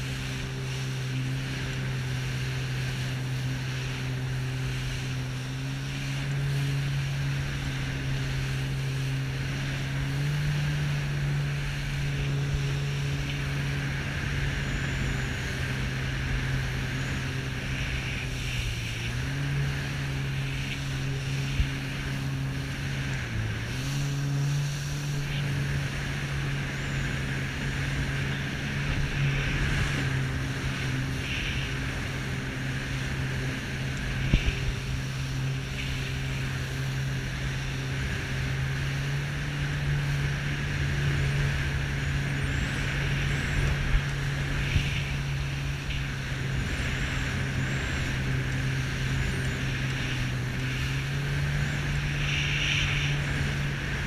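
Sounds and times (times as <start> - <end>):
jet ski engine running: 0.0 - 54.0
water rushing along hull: 0.0 - 54.0.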